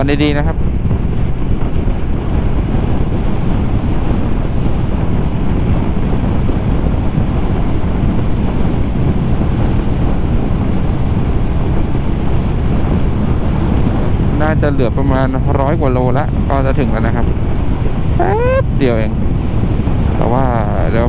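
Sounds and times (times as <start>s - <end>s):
scooter road and motor noise: 0.0s - 21.0s
wind buffeting microphone: 0.0s - 21.0s.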